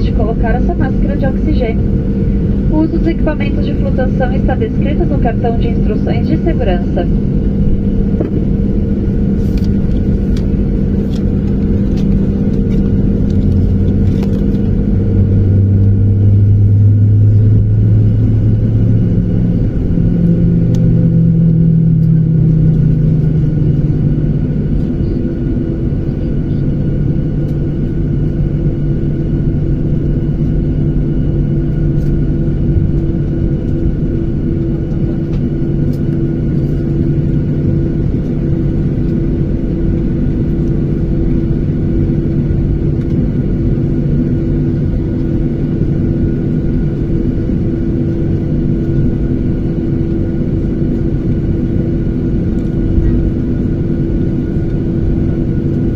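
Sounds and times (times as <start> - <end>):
jet airliner cabin rumble: 0.0 - 55.9.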